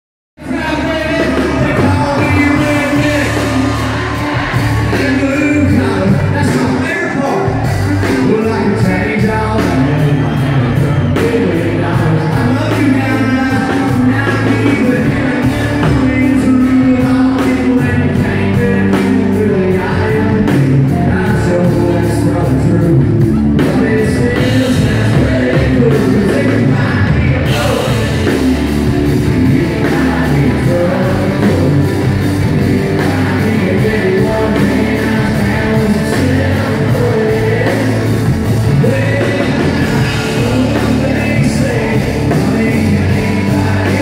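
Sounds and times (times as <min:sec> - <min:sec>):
live country-rock band: 0:00.4 - 0:44.0
man singing: 0:00.4 - 0:44.0.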